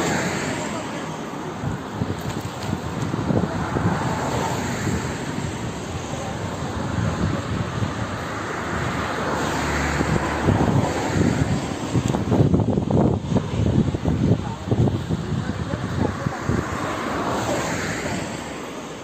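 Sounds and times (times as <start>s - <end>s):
wind on microphone: 0.0s - 18.5s
vehicle rumbling: 0.0s - 19.0s.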